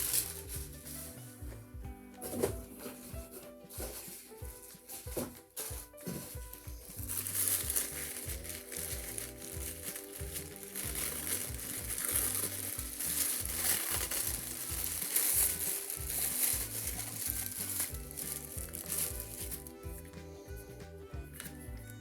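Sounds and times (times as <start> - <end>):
plastic packaging crinkling: 0.0 - 1.3, 2.2 - 20.1
background music: 0.0 - 22.0.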